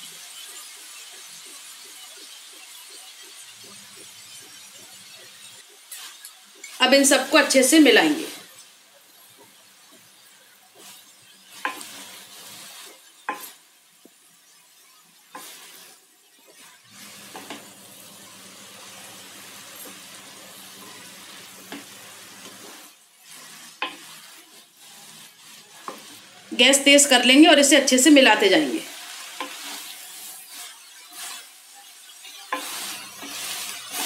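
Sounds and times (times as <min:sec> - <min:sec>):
faint frying sizzle: 0:00.0 - 0:34.0.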